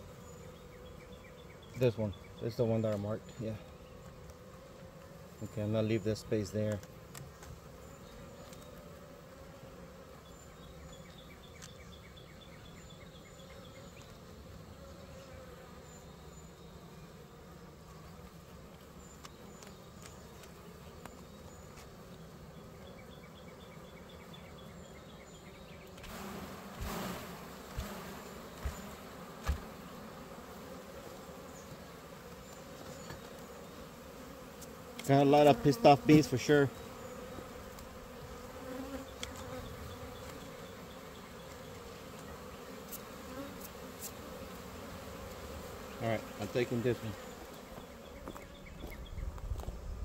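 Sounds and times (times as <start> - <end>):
bees buzzing: 0.0 - 50.0
rustle: 0.0 - 50.0.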